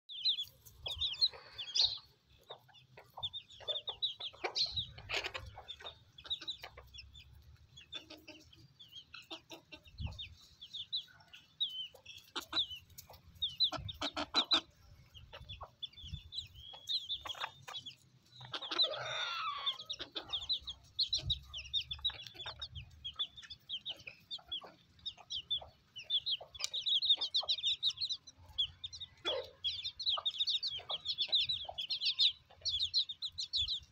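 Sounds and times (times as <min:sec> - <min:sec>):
chickens clucking: 0:00.1 - 0:33.9
chicks peeping: 0:00.1 - 0:33.9.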